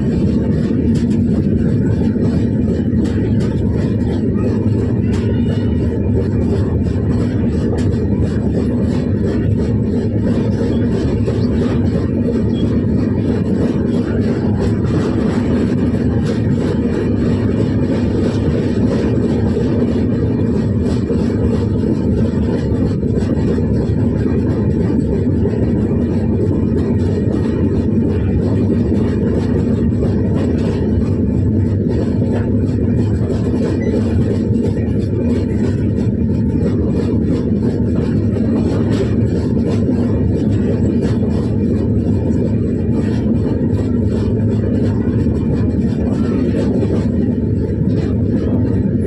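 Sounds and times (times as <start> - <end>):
train rumbling: 0.0 - 49.0.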